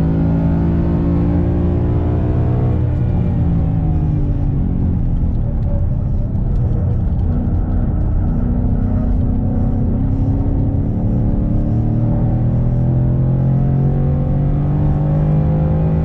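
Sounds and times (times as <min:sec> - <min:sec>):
car engine running: 0:00.0 - 0:16.0
road rumble: 0:00.0 - 0:16.0.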